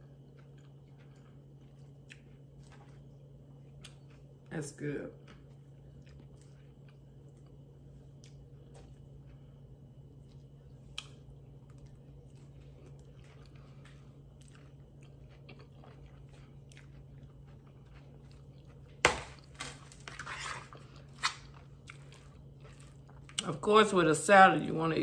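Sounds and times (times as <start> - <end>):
person chewing salad: 0.0 - 4.5, 5.2 - 19.0, 20.6 - 23.4.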